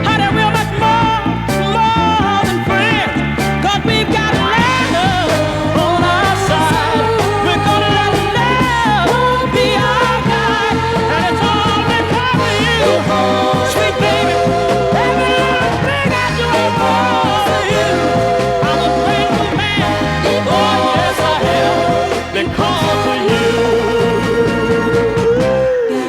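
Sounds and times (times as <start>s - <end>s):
soul music with full band: 0.0s - 26.0s.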